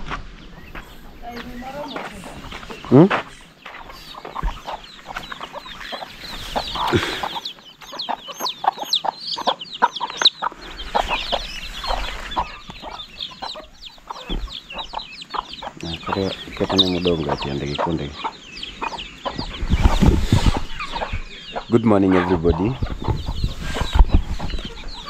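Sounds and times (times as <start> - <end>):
chicks peeping: 0.0 - 25.0
hens clucking: 0.0 - 25.0.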